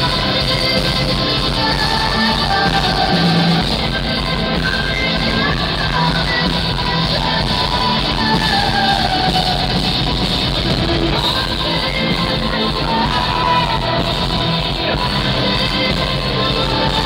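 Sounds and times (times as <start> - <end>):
live symphonic metal band: 0.0 - 17.0
woman singing: 0.0 - 17.0.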